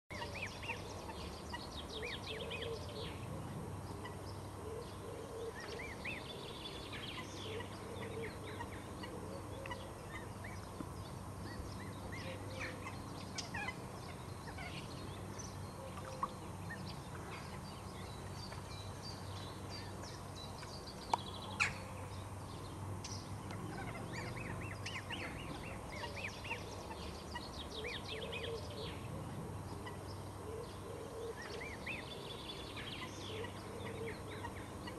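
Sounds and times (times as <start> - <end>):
low background hum: 0.1 - 34.9.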